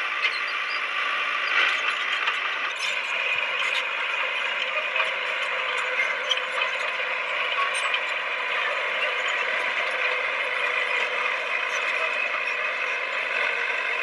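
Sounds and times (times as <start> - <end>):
bulldozer engine: 0.0 - 14.0
bulldozer tracks clattering: 0.0 - 14.0.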